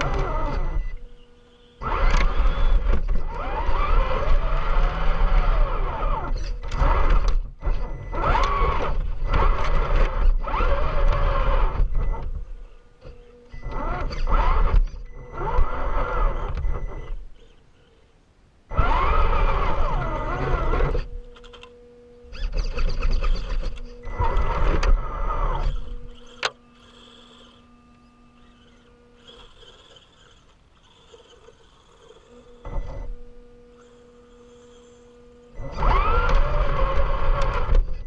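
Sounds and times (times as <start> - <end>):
electric motor and gears whining: 0.0 - 38.0
faint steady hum: 0.0 - 38.0.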